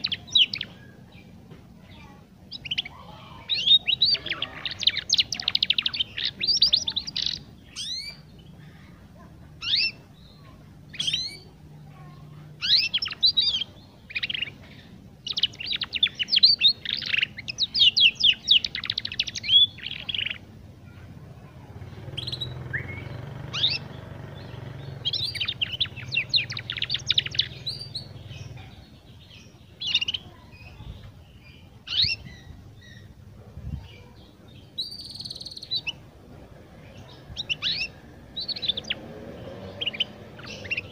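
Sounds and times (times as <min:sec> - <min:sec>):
canary twittering and trilling: 0:00.0 - 0:40.9.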